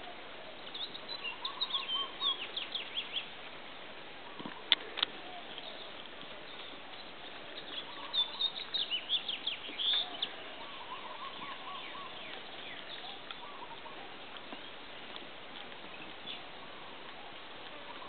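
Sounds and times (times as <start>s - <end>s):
small birds chirping: 0.0s - 18.0s
steady outdoor hiss: 0.0s - 18.0s.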